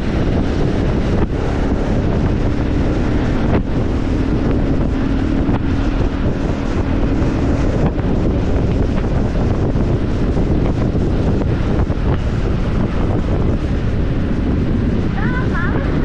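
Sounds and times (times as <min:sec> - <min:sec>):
motorcycle engine humming: 0:00.0 - 0:16.0
wind rushing over microphone: 0:00.0 - 0:16.0.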